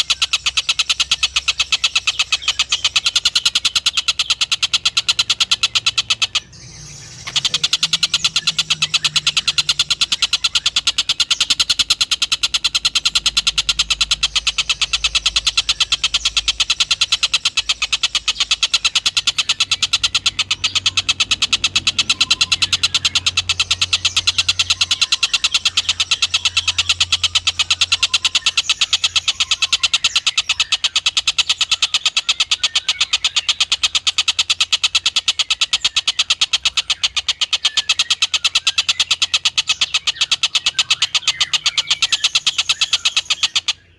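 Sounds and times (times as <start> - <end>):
kingfisher pulsed call: 0.0 - 43.9.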